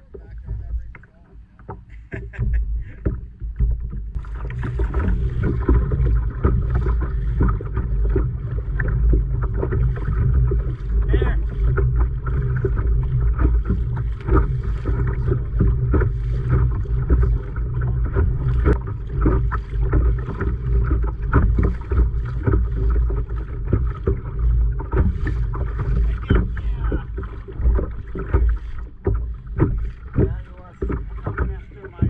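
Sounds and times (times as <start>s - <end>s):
waves slapping kayak hull: 0.0s - 32.0s.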